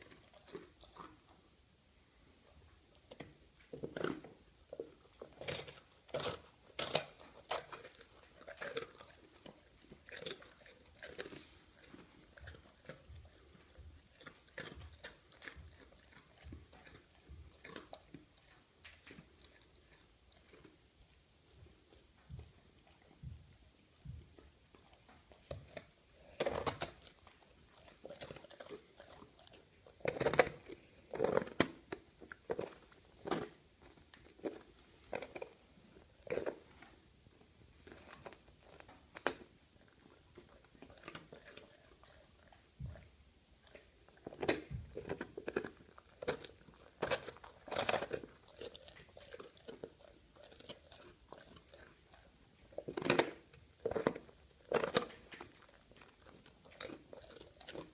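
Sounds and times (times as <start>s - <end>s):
dog crunching bread crust: 0.0s - 1.6s, 2.4s - 57.9s
dog gnawing: 0.0s - 1.6s, 2.5s - 57.9s.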